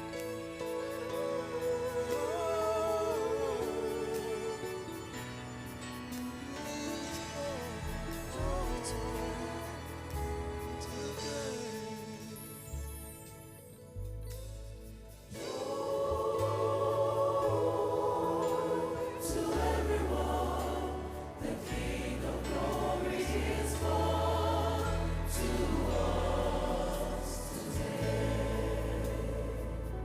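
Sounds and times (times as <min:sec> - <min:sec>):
gospel choir singing: 0:00.0 - 0:12.8, 0:15.3 - 0:30.0
instrumental backing with bass notes: 0:00.0 - 0:30.0.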